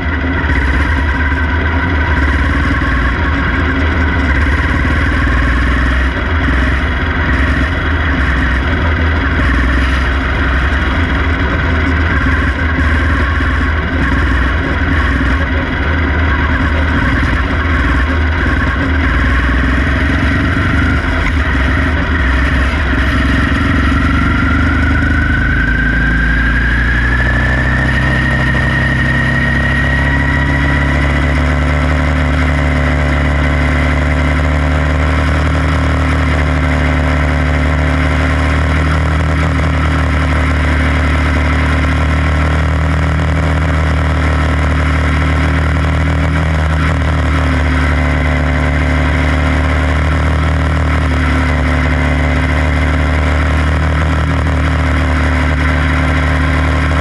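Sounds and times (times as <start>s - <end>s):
race car engine whining: 0.0s - 57.0s.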